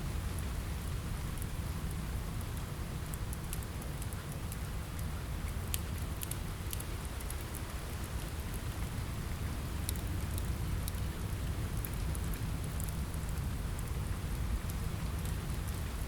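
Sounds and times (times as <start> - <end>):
rain on a window: 0.0 - 16.0
wood fire crackling: 1.3 - 16.0.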